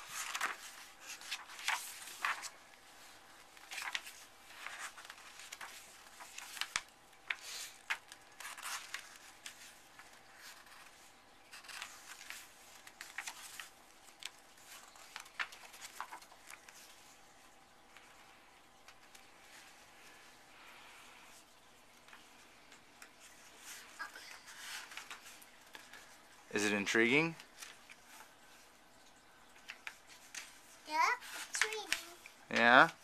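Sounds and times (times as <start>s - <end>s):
book pages rustling: 0.0s - 33.0s.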